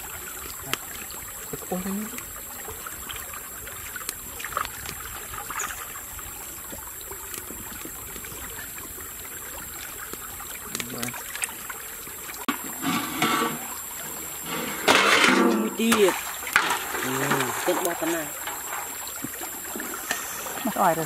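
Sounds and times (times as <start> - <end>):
stream running: 0.0 - 21.0
wood fire crackling: 0.0 - 21.0.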